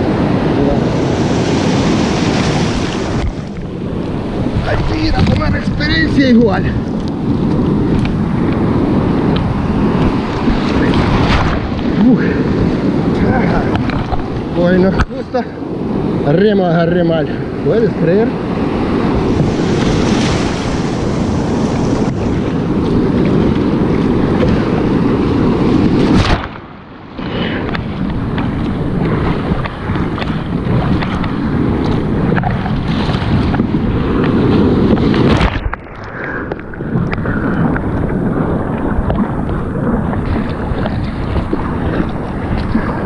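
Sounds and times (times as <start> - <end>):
water splashing: 0.0 - 15.5, 18.1 - 43.0
surf: 0.0 - 43.0
wind buffeting microphone: 0.0 - 43.0.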